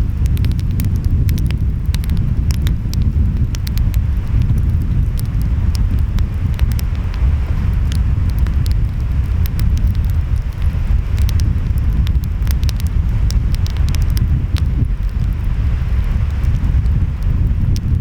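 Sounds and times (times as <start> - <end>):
wind: 0.0 - 18.0
wood fire crackling: 0.0 - 18.0.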